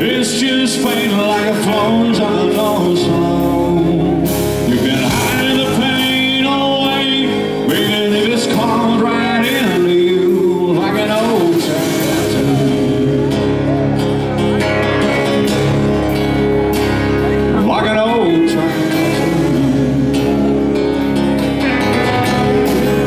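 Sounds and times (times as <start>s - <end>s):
man singing: 0.0s - 16.1s, 17.2s - 23.0s
acoustic guitar strumming: 0.0s - 23.0s.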